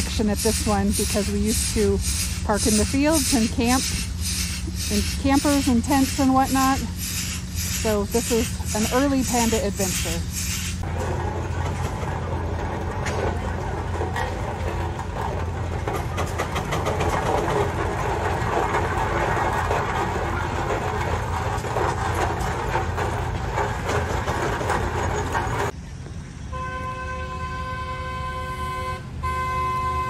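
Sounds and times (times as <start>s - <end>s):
steam traction engine clattering: 0.0s - 25.8s
steady low hum: 0.0s - 26.6s.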